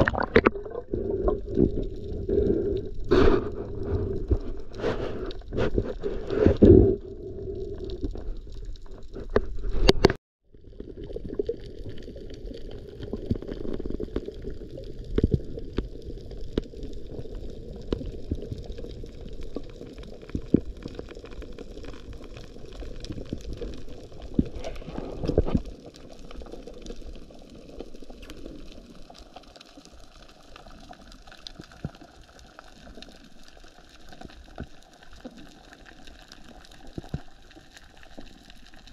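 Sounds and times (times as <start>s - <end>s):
underwater wash: 0.0s - 38.9s
underwater water rushing: 0.0s - 38.9s.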